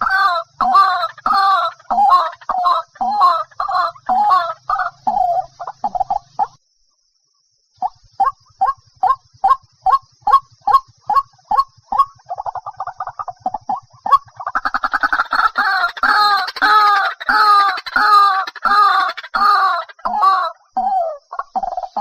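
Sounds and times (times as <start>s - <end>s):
waterhen calling: 0.0s - 6.6s, 7.8s - 22.0s.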